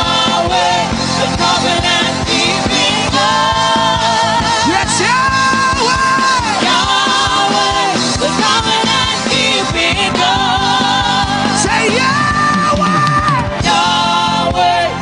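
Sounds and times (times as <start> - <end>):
person singing with vibrato: 0.0 - 15.0
steady drum beat: 0.0 - 15.0.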